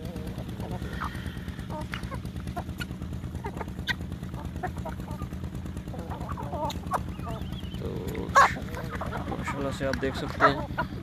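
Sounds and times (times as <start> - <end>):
beaks pecking the ground: 0.0 - 11.0
chickens clucking: 0.0 - 11.0
steady low hum: 0.0 - 11.0.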